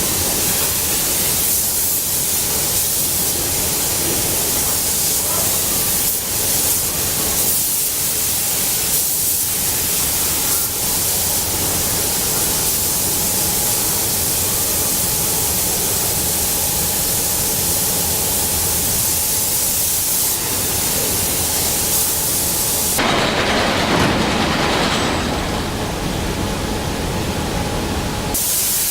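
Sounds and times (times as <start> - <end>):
loud hissing rush: 0.0 - 28.9.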